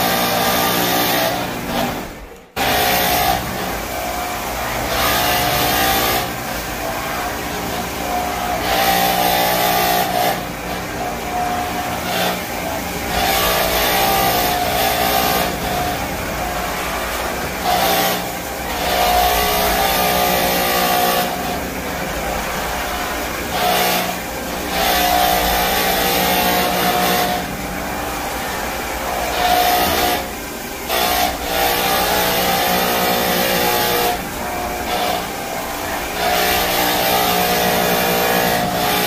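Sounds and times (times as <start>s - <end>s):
brushes scrubbing wet floor: 0.0s - 39.0s
floor scrubbing machine motor whine: 0.0s - 39.0s.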